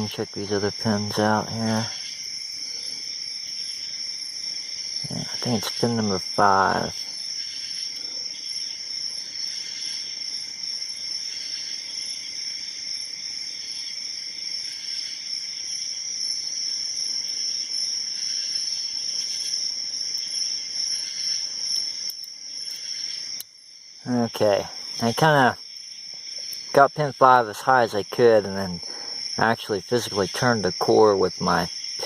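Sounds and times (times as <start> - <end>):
insects chirping chorus: 0.0 - 32.0.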